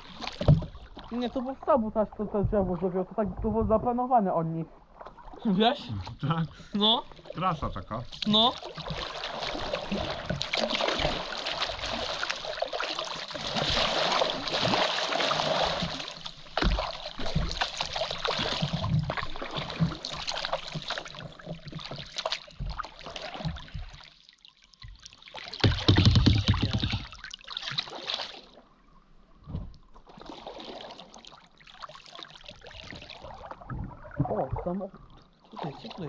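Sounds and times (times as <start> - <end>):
paddles splashing in water: 0.0 - 28.8, 29.4 - 36.0
water trickling off paddles: 0.0 - 36.0.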